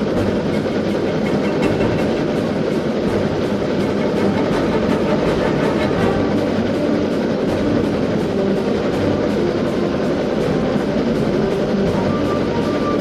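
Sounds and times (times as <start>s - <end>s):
background music: 0.0s - 13.0s
steam train running: 0.0s - 13.0s.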